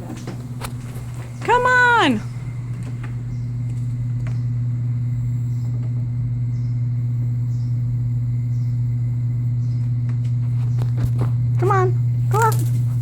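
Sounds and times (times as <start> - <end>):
low-pitched hum: 0.0 - 13.0.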